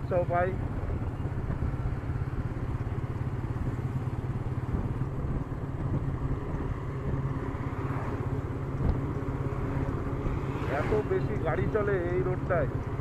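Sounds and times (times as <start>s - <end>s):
motorcycle engine running: 0.0s - 13.0s
road noise: 0.0s - 13.0s
wind noise: 0.0s - 13.0s.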